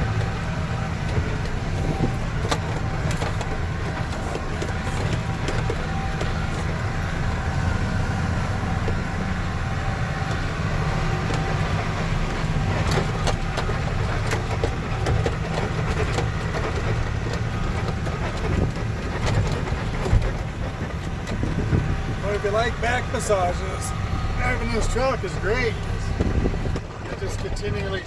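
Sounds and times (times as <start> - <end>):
cab rattling and knocking: 0.0 - 28.0
truck engine rumbling: 0.0 - 28.0.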